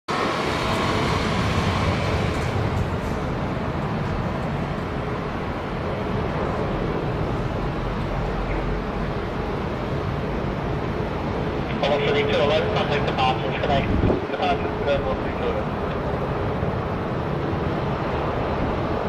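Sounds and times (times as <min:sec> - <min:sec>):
faint jet whine: 0:00.1 - 0:19.0
jet engines rumbling: 0:00.1 - 0:19.0.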